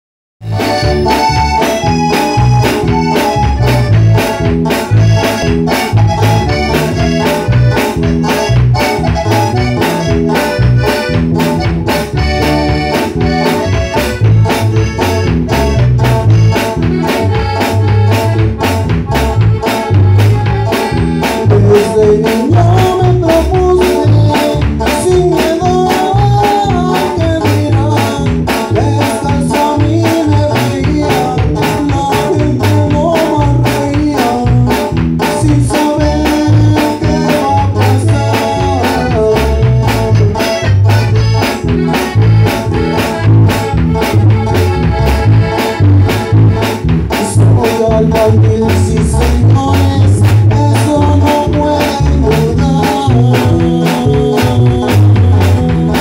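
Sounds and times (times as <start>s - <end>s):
accordion melody: 0.4s - 56.0s
drum kit beat with cymbals: 0.4s - 56.0s
electric bass line: 0.4s - 56.0s
strummed acoustic guitar: 0.4s - 56.0s.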